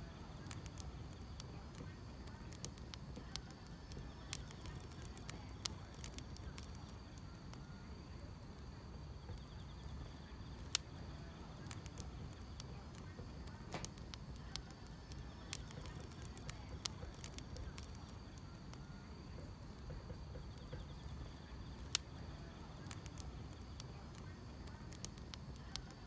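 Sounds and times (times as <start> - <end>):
insects chirring: 0.0 - 26.0
low rumble of flames: 0.0 - 26.0
wood fire crackling and popping: 0.0 - 26.0.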